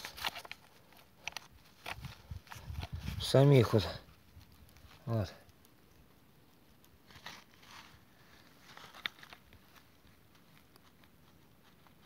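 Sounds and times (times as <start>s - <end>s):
faint rustles: 0.0s - 12.0s.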